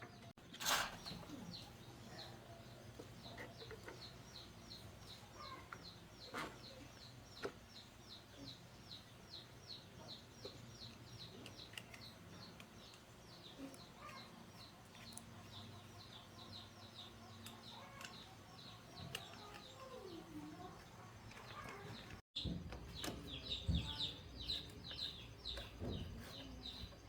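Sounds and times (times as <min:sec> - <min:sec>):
bird chirping: 0:00.0 - 0:27.0.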